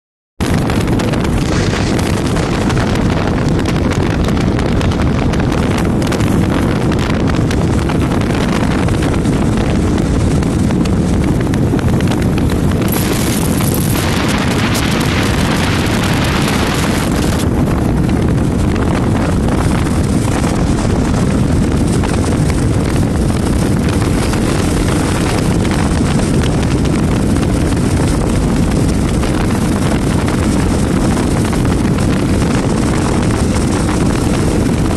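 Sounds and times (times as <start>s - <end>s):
road noise: 0.4s - 34.9s
wind rushing over microphone: 0.4s - 34.9s
motorcycle engine: 0.6s - 34.9s.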